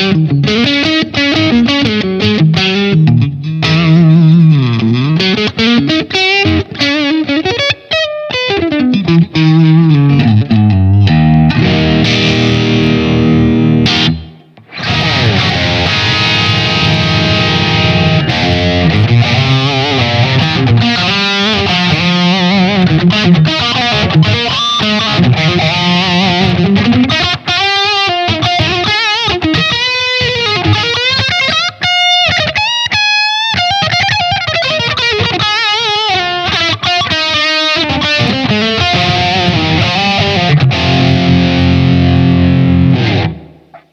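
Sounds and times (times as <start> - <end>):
electric guitar through amp: 0.0 - 43.9.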